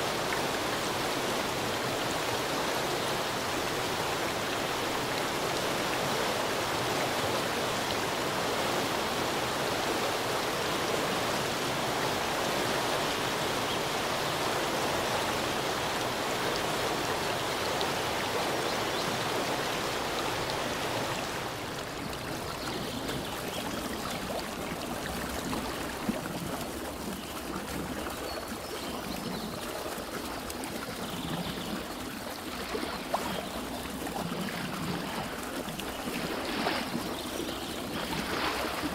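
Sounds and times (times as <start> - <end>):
flowing stream rushing: 0.0 - 38.9.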